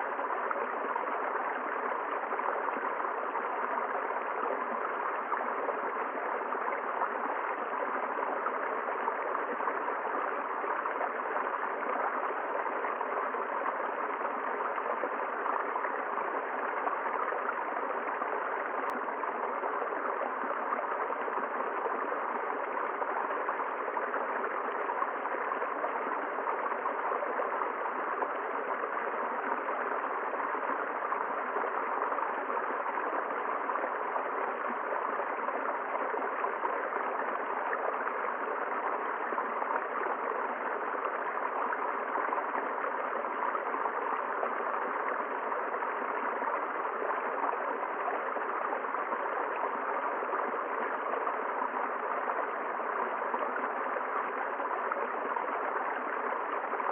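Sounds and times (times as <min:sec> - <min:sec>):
river water flowing: 0:00.0 - 0:56.9.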